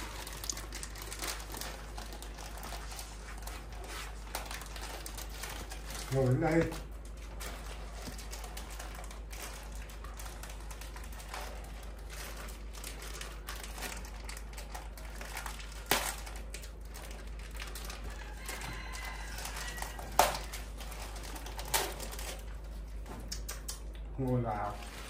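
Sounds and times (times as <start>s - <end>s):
plastic packet crinkling: 0.0s - 23.4s.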